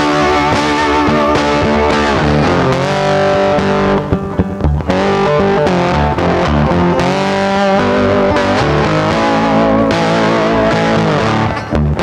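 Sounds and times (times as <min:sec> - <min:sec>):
distorted electric guitar: 0:00.0 - 0:12.0.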